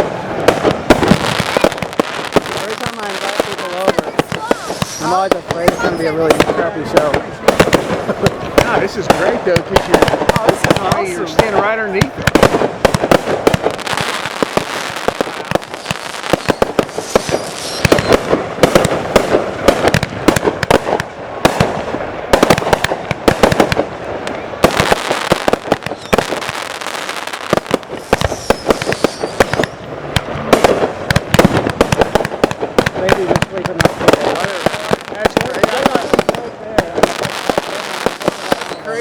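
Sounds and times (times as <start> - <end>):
fireworks crackling: 0.0 - 39.0
fireworks exploding overhead: 0.0 - 39.0.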